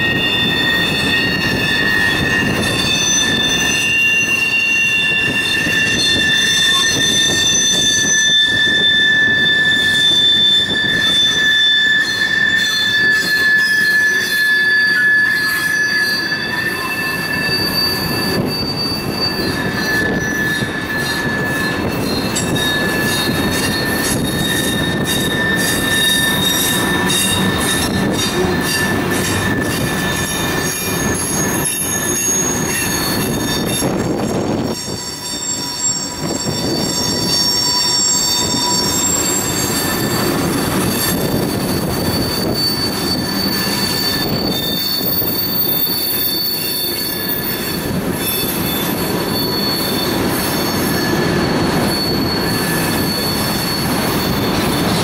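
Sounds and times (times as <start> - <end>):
high wheel squeal: 0.0 - 55.0
train wheels rumbling on rails: 0.0 - 55.0.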